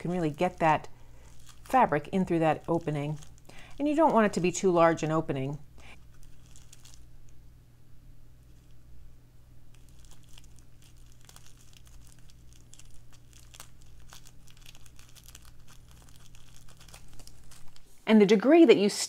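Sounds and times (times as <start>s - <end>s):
bubble wrap crinkling: 0.0s - 7.4s, 8.4s - 8.8s, 9.6s - 18.0s.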